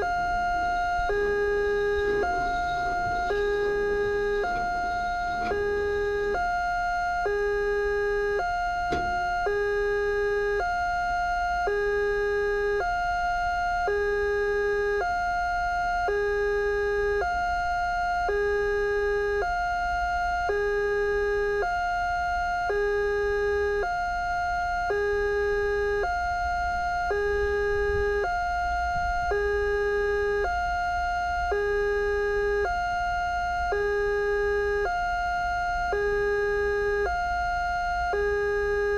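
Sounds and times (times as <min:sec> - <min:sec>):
two-tone level crossing siren: 0:00.0 - 0:38.9.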